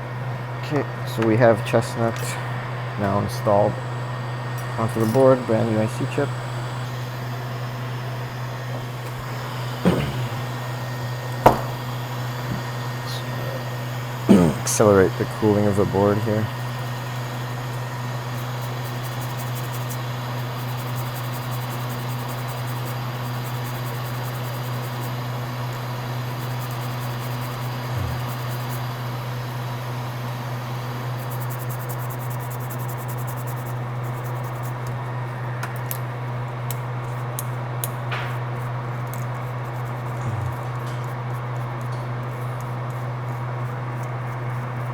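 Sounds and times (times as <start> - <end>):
fan humming: 0.0 - 44.9.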